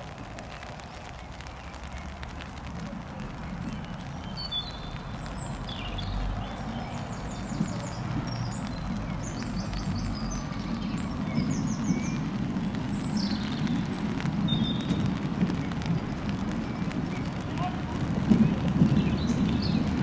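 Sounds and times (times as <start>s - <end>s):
songbirds trilling and chirping: 0.2s - 20.0s.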